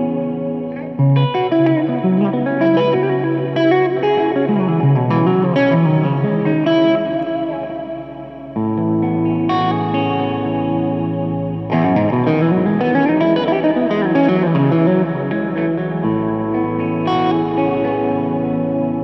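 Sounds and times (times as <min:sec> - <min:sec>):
electric guitar improvising: 0:00.0 - 0:19.0.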